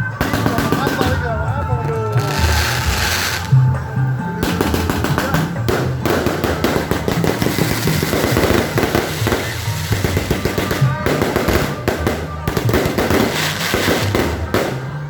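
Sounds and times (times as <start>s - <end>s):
fireworks crackling: 0.0s - 15.0s
music playing: 0.0s - 15.0s.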